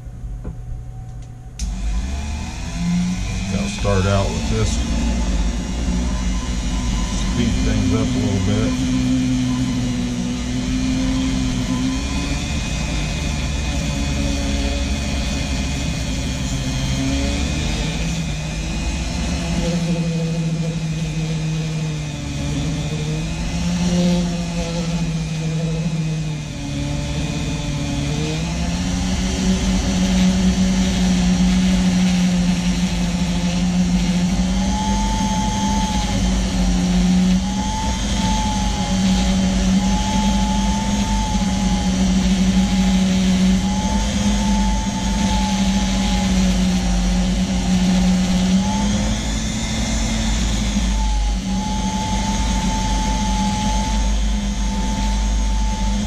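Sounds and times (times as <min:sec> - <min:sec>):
rotary tool sanding: 0:01.7 - 0:56.0.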